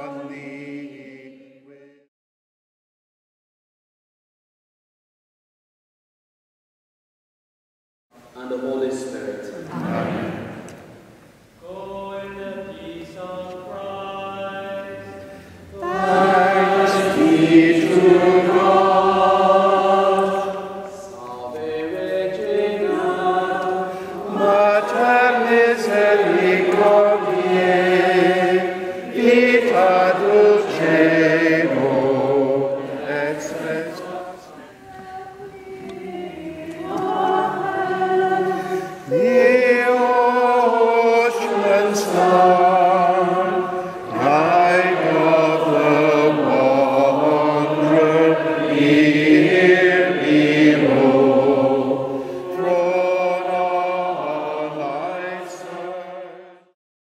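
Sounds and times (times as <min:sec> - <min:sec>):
group singing slow chant: 0:00.0 - 0:02.1, 0:09.7 - 0:56.8.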